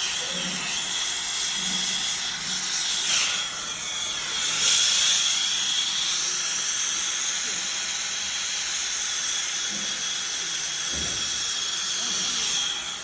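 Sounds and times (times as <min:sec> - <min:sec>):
torch flame hissing: 0:00.0 - 0:13.0.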